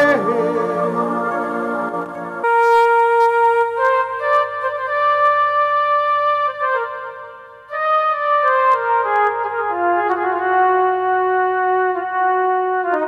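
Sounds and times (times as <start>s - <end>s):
slow melody of held notes: 0.0s - 13.0s.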